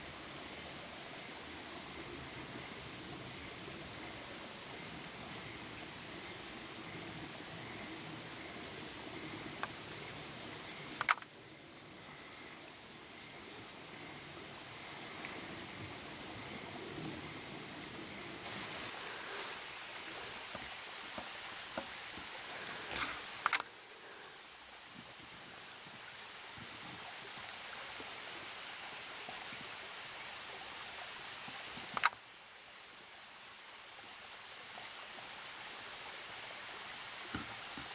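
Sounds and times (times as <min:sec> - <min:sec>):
faint background hiss: 0:00.0 - 0:37.9
high-pitched insect chorus: 0:00.1 - 0:37.9.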